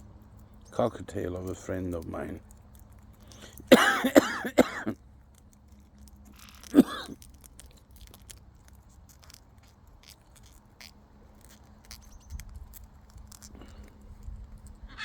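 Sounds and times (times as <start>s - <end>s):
seeds being husked clicks: 0.1s - 4.0s, 4.8s - 14.9s.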